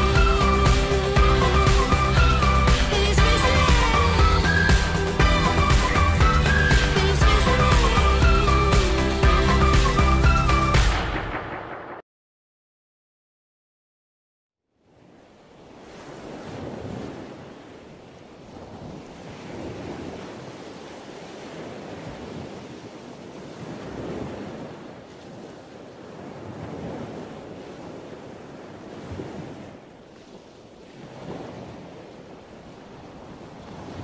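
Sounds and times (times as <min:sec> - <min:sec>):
sea waves washing: 0:00.0 - 0:11.5, 0:14.9 - 0:34.0.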